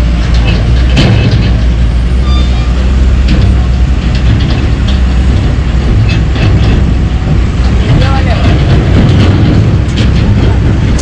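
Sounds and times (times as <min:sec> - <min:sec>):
diesel truck engines rumbling: 0:00.0 - 0:11.0.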